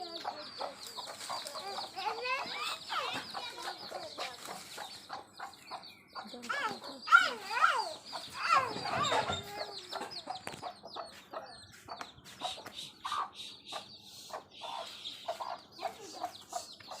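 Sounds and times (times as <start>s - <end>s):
baby chicks peeping: 0.0s - 17.0s
hen clucking: 0.0s - 17.0s.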